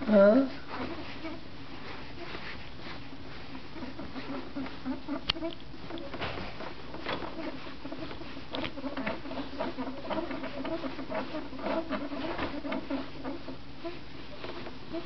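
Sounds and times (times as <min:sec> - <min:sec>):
small clicks and rustles: 0:00.7 - 0:15.0.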